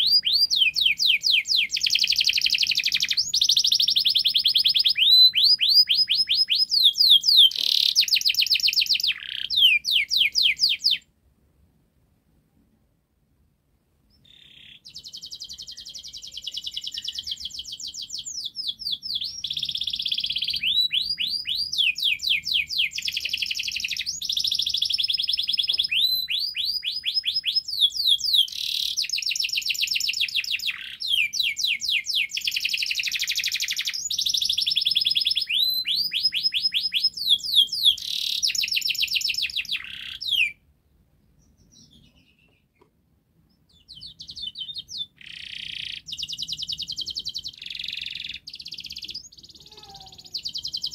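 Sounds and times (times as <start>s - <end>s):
canary singing trills: 0.0s - 11.1s, 14.1s - 40.6s, 41.2s - 42.8s, 43.5s - 50.9s.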